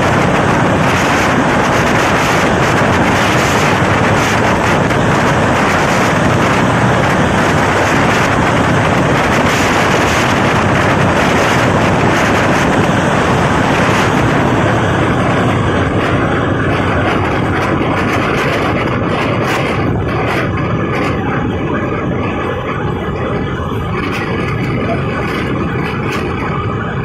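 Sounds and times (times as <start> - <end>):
passenger train running: 0.0 - 27.0
wind on microphone: 0.0 - 27.0.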